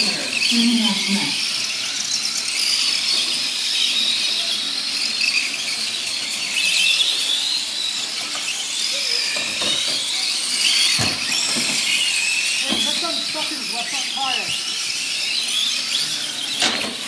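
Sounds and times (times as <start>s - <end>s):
toy truck motors whining: 0.0s - 17.0s.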